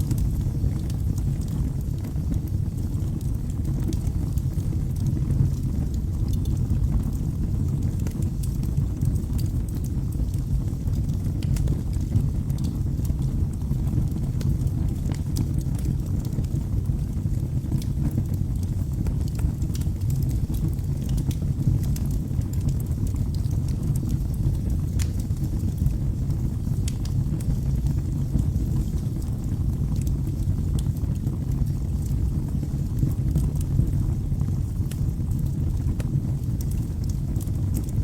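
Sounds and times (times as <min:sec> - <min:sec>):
low rumble of flames: 0:00.0 - 0:38.0
wood crackling and popping: 0:00.0 - 0:38.0.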